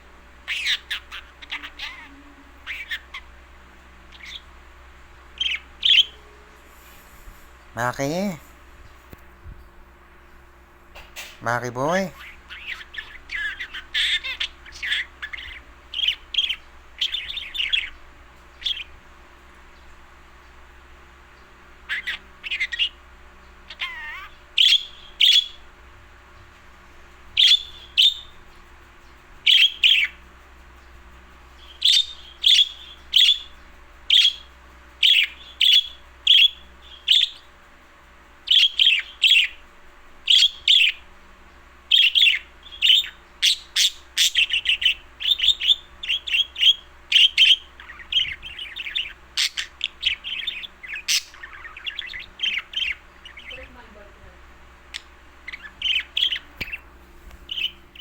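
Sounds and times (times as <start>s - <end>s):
bird chirping: 0.0s - 10.4s, 11.0s - 20.6s, 21.2s - 58.0s.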